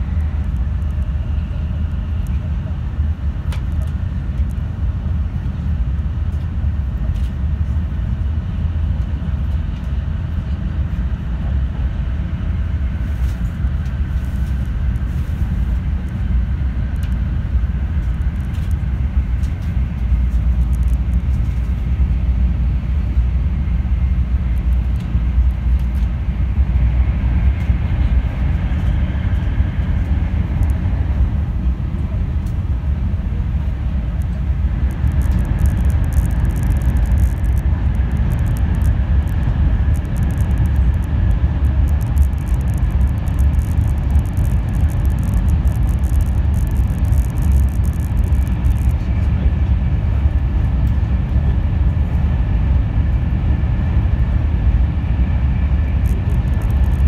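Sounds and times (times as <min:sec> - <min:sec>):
train interior running rumble: 0:00.0 - 0:57.0.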